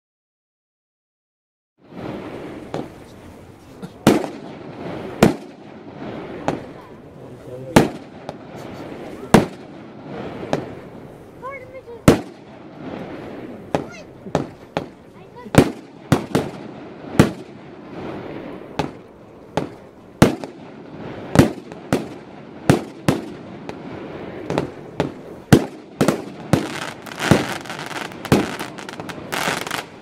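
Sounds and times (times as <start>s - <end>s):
steady firework hiss: 1.9s - 30.0s
firework shots banging: 2.0s - 3.0s, 3.8s - 6.8s, 7.7s - 11.0s, 12.0s - 30.0s.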